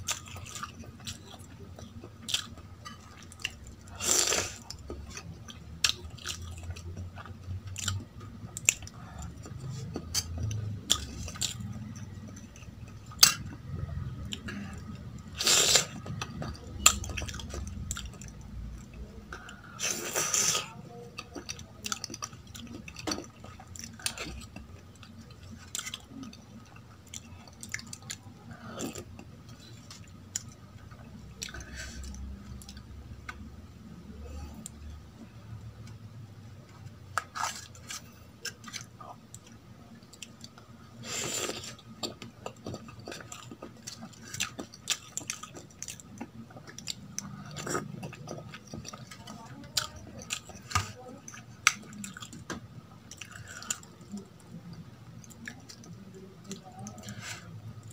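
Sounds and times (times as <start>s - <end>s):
chewing and mouth sounds: 0.0s - 57.9s.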